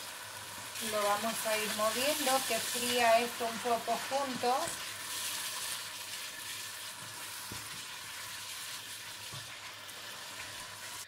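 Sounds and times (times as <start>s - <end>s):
sauce sizzling in a pot: 0.0s - 11.0s.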